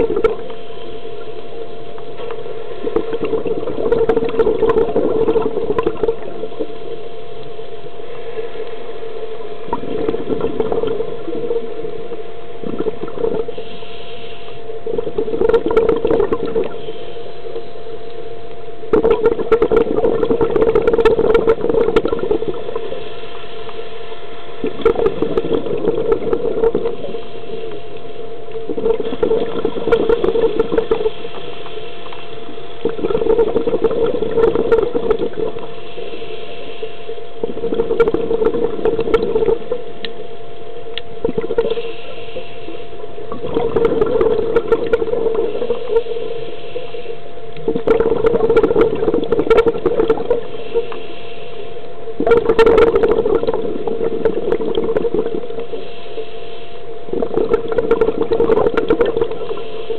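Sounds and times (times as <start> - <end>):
thin steady tone: 0.0 - 59.9
underwater bubbles gurgling: 0.0 - 59.9.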